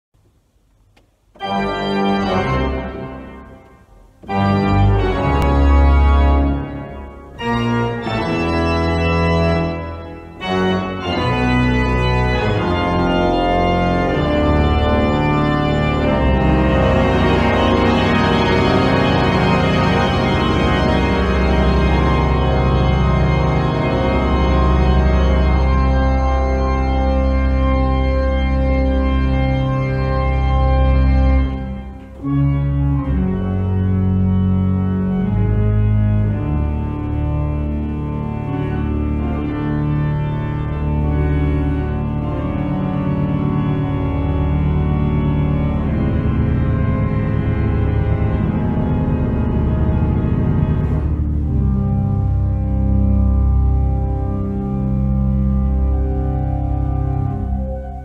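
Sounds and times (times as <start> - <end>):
pipe organ playing: 0.3 - 58.0.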